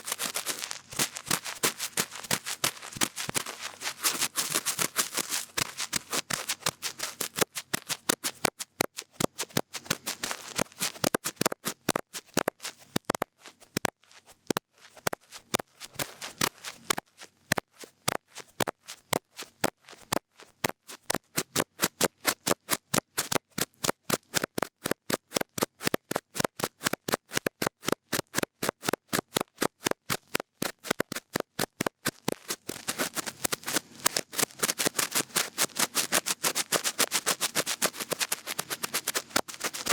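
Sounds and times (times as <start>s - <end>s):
cotton bud scratching microphone: 0.0s - 39.9s.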